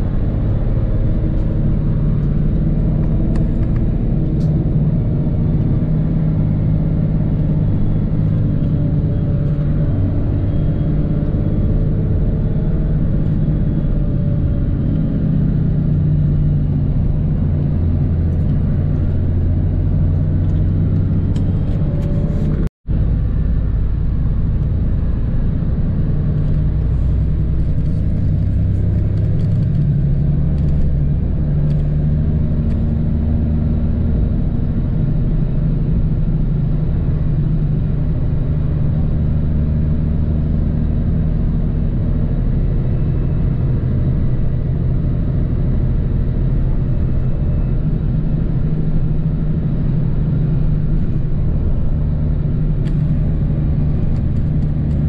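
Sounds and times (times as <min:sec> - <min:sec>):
coach engine and road noise: 0:00.0 - 0:55.0.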